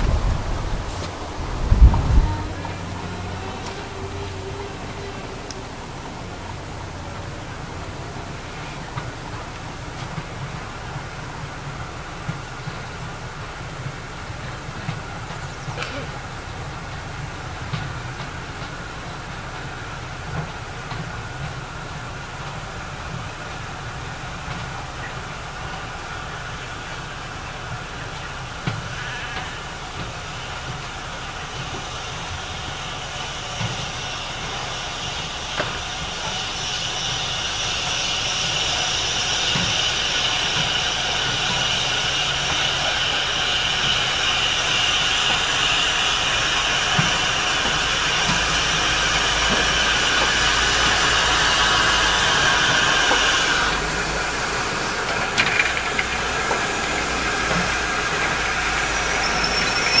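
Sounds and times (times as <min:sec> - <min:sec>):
steam locomotive hissing: 0:00.0 - 1:00.0.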